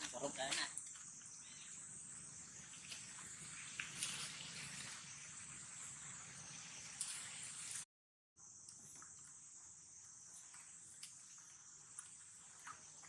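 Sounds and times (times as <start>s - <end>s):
insects chirring: 0.0s - 7.8s, 8.4s - 13.0s.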